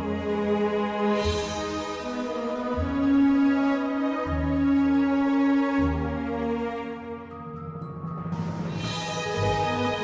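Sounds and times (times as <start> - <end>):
slow gentle background music: 0.0 - 10.0.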